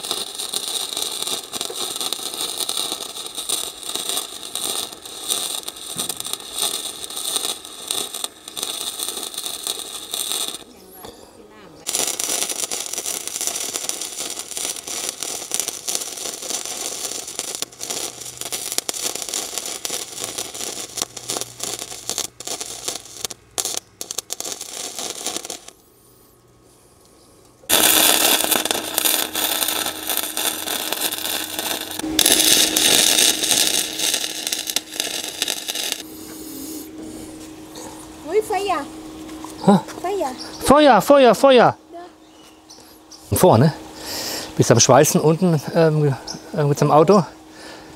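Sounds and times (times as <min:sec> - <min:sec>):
arc welding crackle: 0:00.0 - 0:26.0, 0:27.7 - 0:47.9
steady hum: 0:00.0 - 0:47.9.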